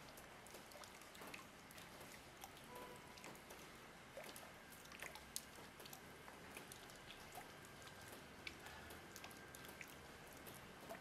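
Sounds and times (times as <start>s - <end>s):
faint water drops falling: 0.0s - 11.0s.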